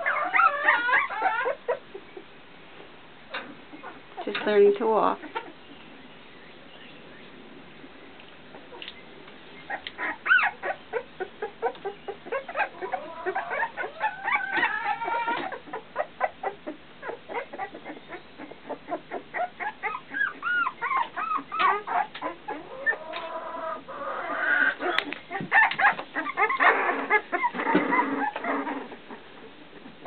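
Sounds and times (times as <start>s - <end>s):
puppies squeaking and whining: 0.0s - 2.3s, 3.3s - 6.0s, 8.5s - 30.0s.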